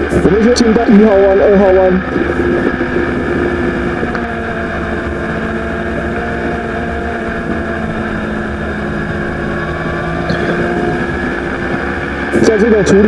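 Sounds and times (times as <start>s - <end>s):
motorcycle engine at high revs: 0.0s - 13.0s
wind rushing over the microphone: 0.0s - 13.0s.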